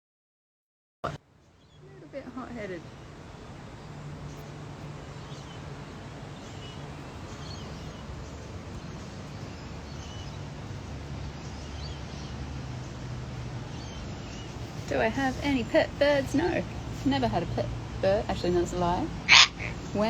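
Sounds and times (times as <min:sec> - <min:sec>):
steady low hum: 0:01.1 - 0:20.0
faint bird calls: 0:01.4 - 0:17.3, 0:19.2 - 0:20.0.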